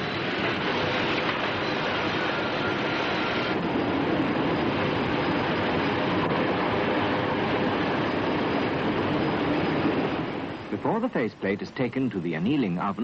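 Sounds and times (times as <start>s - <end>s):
steady machinery noise: 0.0s - 13.0s.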